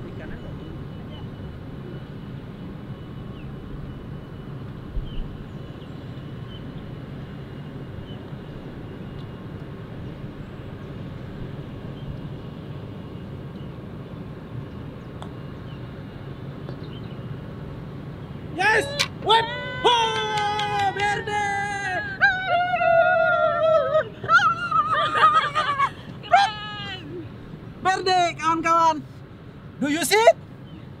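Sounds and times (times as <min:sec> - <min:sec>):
distant traffic rumble: 0:00.0 - 0:31.0.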